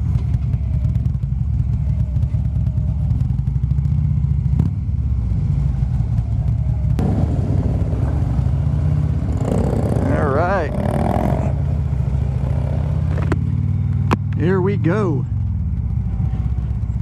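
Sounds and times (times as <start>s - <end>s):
motorcycle engine running: 0.0s - 17.0s
second motorcycle engine: 0.0s - 17.0s.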